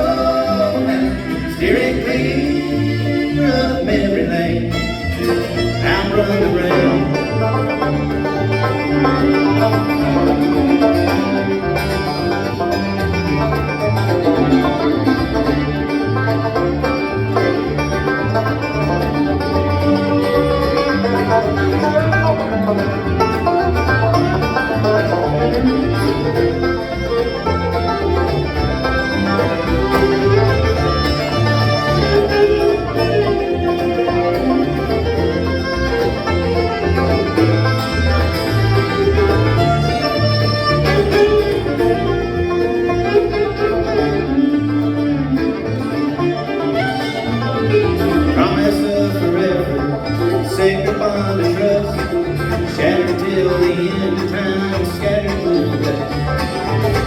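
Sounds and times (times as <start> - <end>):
banjo: 0.0 - 57.0
fiddle: 0.0 - 57.0
guitar: 0.0 - 57.0
walking bass line: 0.0 - 57.0.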